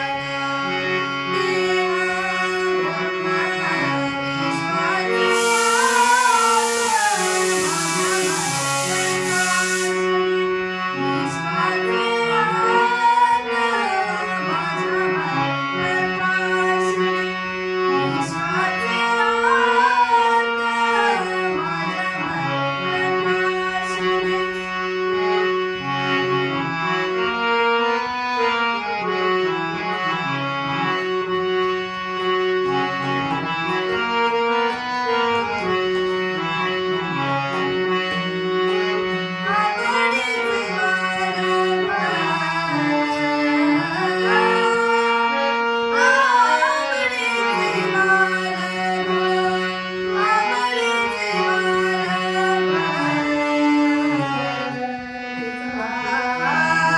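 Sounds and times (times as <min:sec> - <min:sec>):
sustained organ-like notes: 0:00.0 - 0:56.9.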